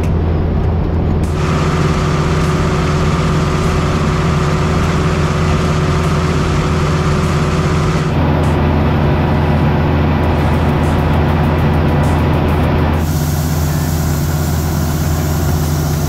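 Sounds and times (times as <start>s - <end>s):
harvester machinery hum: 0.0s - 16.0s.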